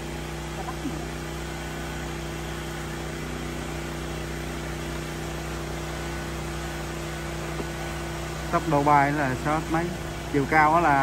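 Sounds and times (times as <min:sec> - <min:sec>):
machine humming and hissing: 0:00.0 - 0:11.0.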